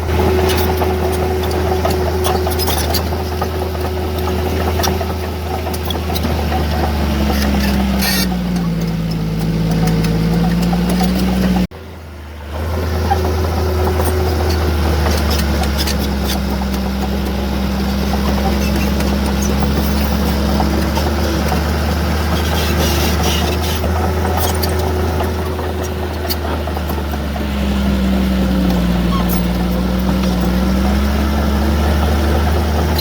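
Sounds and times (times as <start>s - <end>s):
diesel machinery engine drone: 0.0s - 33.0s.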